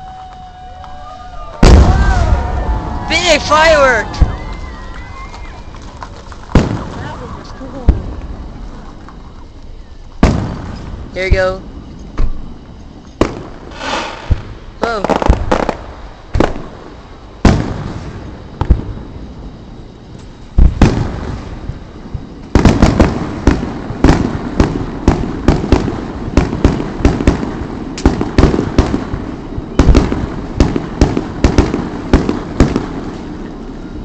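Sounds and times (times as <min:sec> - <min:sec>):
firework shells bursting: 0:01.6 - 0:11.4, 0:12.0 - 0:19.0, 0:19.7 - 0:33.5.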